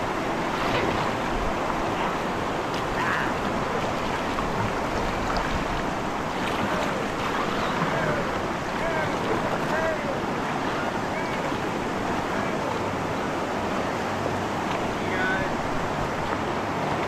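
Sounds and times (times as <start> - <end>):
river water rushing over rapids: 0.0 - 17.0.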